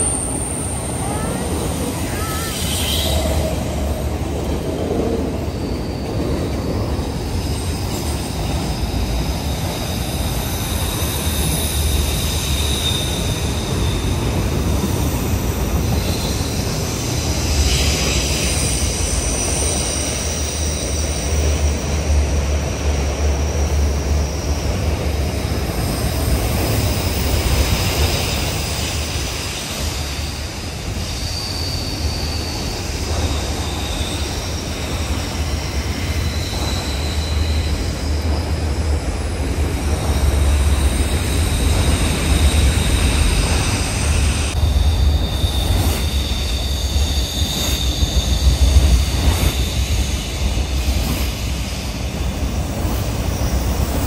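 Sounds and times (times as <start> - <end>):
high wheel squeals: 0.0 - 54.0
train wheels rumbling on rail: 0.0 - 54.0.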